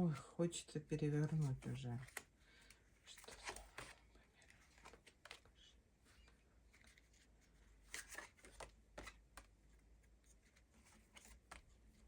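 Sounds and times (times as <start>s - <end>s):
cards rustling and tapping: 1.2s - 12.0s.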